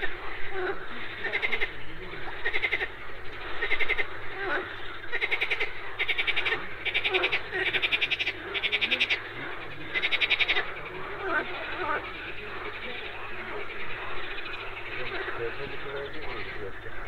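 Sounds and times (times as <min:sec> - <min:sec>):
frogs pulsed calls: 0:00.0 - 0:17.0
low frog croaks: 0:00.0 - 0:17.0.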